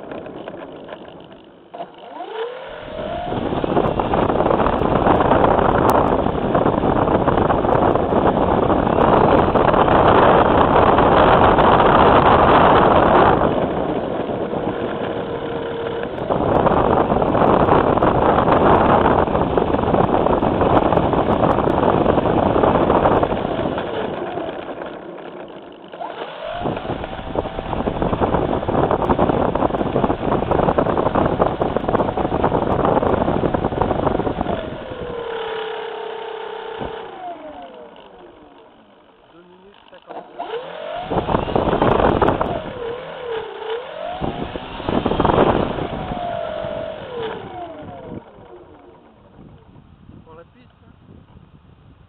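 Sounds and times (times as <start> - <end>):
faint motor whine: 0.0 - 52.0.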